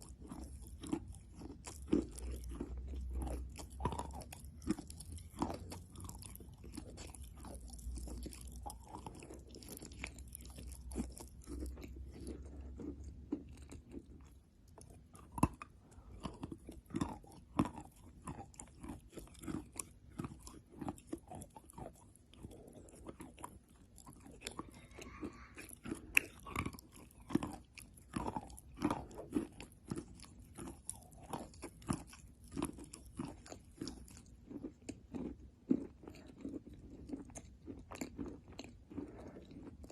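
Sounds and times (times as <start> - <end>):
chalk being chewed: 0.0 - 39.9.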